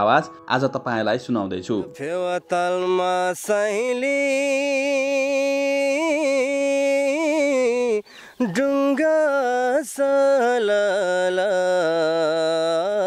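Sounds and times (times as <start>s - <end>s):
man singing unaccompanied: 1.7s - 13.0s.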